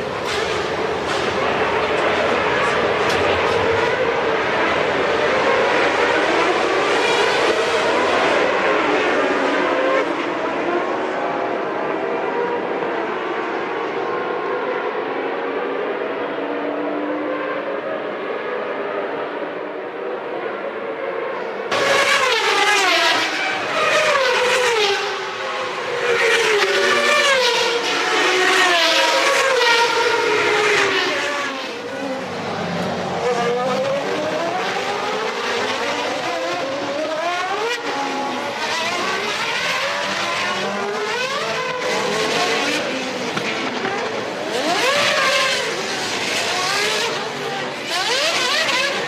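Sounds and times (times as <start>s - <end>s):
racing cars at high revs: 0.0s - 49.0s.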